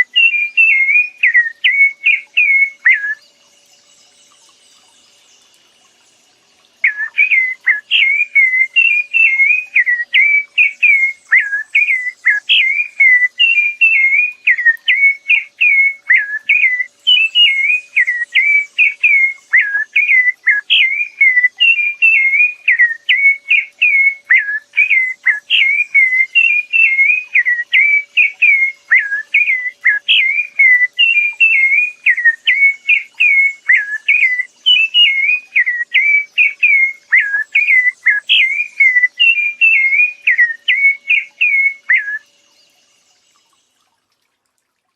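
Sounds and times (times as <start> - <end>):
songbird whistling: 0.0 - 5.2, 6.8 - 43.4.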